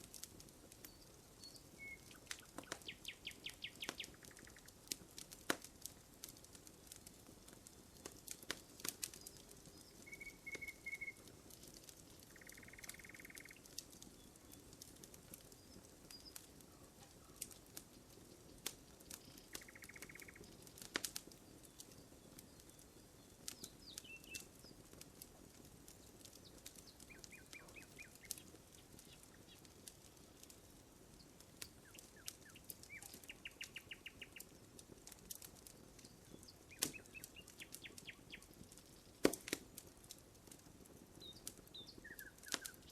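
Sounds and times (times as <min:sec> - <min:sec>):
campfire crackling and popping: 0:00.0 - 0:42.9
small birds chirping: 0:00.1 - 0:42.9.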